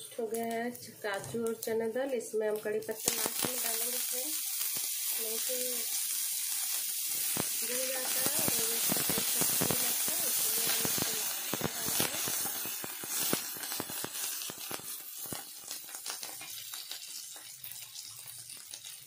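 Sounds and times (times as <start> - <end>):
leaves sizzling in hot oil: 0.0 - 19.0.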